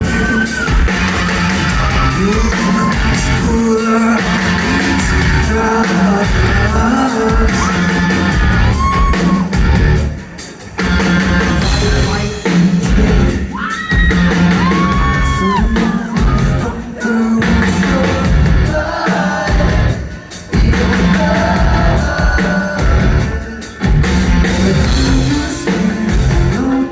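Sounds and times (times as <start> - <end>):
person singing and shouting: 0.0 - 9.8, 11.2 - 26.9
live rock band playing: 0.0 - 26.9.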